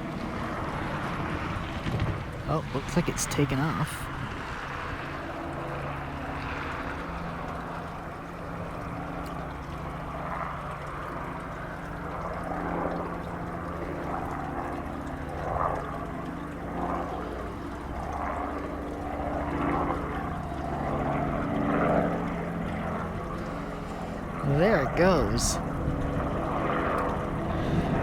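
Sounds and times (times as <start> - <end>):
helicopter rotor drone: 0.0 - 28.0.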